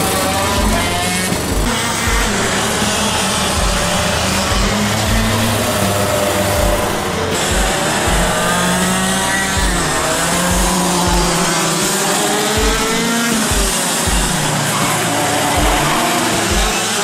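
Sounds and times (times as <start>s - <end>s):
go-kart engine revving: 0.0s - 17.0s
music with kick-drum beat: 0.0s - 17.0s.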